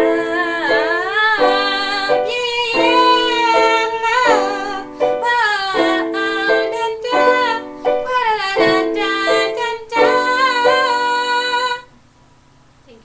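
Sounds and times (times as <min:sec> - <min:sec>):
girl singing long wavering notes: 0:00.0 - 0:11.9
piano chords: 0:00.0 - 0:11.9.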